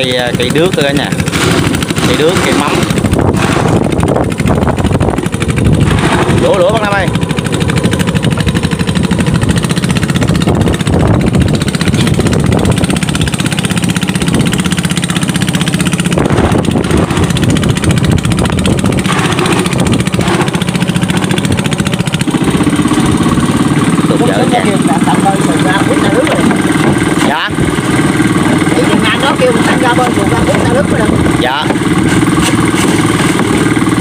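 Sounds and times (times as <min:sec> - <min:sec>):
small boat engine running: 0:00.0 - 0:34.0.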